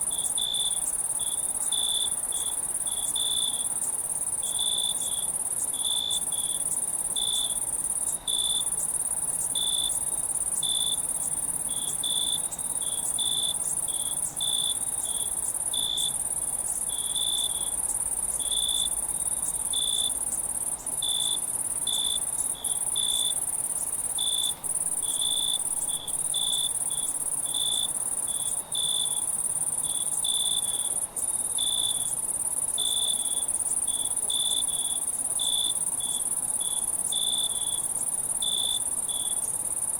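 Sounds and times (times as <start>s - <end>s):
crickets trilling: 0.0s - 39.9s
lower cricket chirp: 0.0s - 39.9s.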